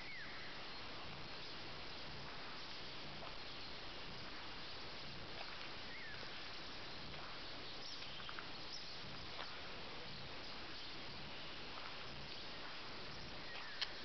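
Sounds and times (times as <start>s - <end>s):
faint bird chirps: 0.0s - 3.9s, 5.4s - 14.0s
steady hiss: 0.0s - 14.0s.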